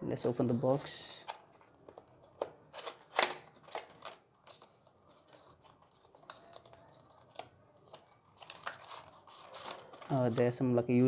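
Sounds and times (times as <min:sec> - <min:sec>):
card and plastic scraping: 0:00.8 - 0:10.6.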